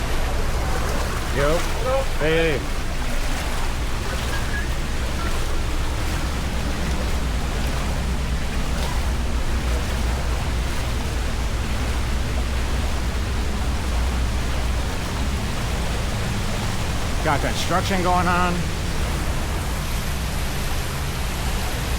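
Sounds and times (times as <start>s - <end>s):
deep rumble: 0.0s - 17.5s, 18.6s - 21.9s
waterfall rushing: 0.0s - 21.9s.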